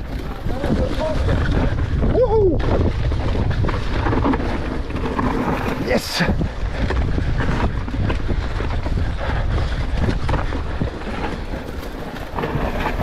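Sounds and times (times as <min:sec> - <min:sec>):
tyres rolling over dirt: 0:00.0 - 0:13.0
wind on microphone: 0:00.0 - 0:13.0.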